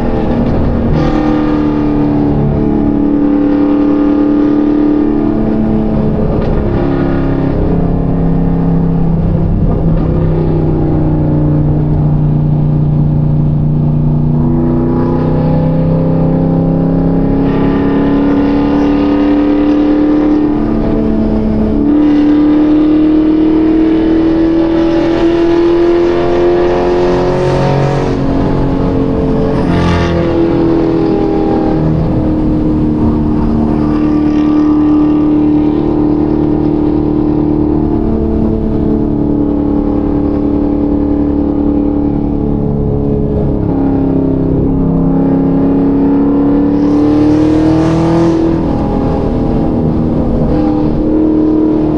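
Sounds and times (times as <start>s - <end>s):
car engine accelerating: 0.0s - 51.9s
road noise: 0.0s - 51.9s.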